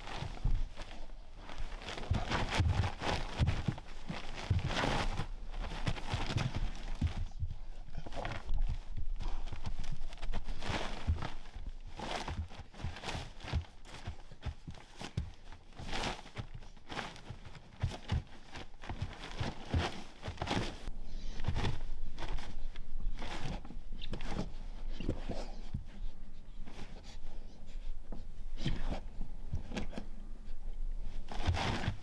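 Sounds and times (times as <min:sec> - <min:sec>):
dog claws scratching blankets: 0:00.0 - 0:26.0, 0:31.0 - 0:32.0
bedding rustling: 0:00.0 - 0:32.0.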